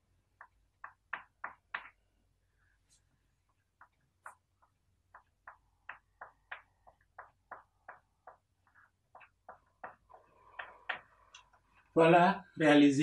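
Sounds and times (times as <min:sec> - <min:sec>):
chalk tapping and scraping: 0:00.2 - 0:02.0, 0:02.7 - 0:11.9.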